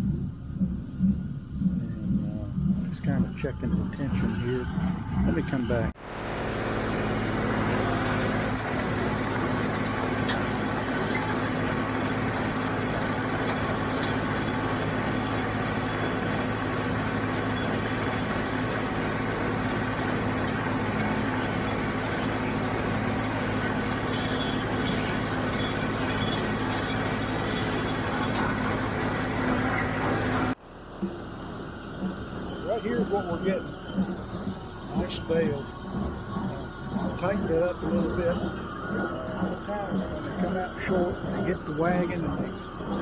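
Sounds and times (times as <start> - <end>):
tractor diesel engine under load: 0.0 - 43.0
faint machinery clicks: 6.4 - 43.0.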